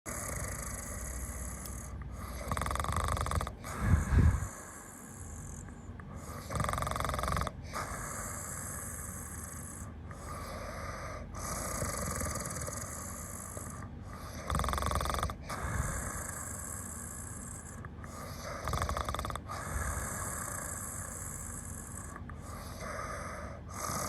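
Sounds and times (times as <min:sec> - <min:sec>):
person snoring heavily: 0:00.1 - 0:24.0.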